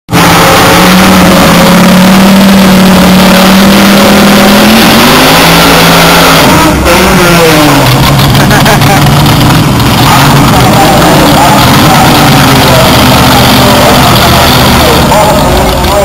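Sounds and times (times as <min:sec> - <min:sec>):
drag-racing engines revving: 0:00.1 - 0:16.0.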